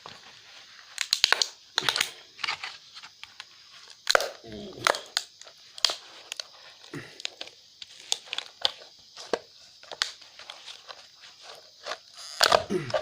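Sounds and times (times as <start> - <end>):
plastic casing cracking: 0.9 - 6.5, 7.1 - 10.8, 11.5 - 13.0.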